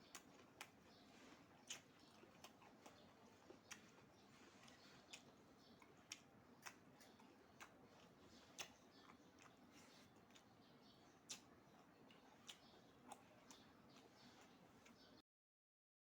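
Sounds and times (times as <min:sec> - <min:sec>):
person chewing: 0:00.0 - 0:15.2.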